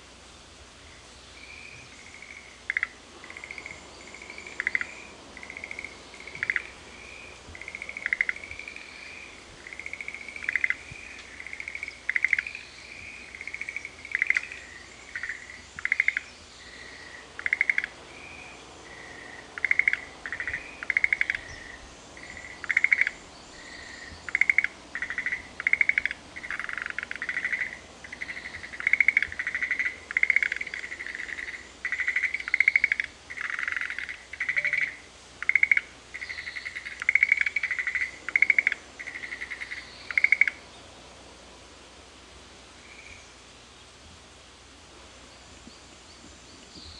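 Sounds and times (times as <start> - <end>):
frogs calling in chorus: 1.5 - 40.6.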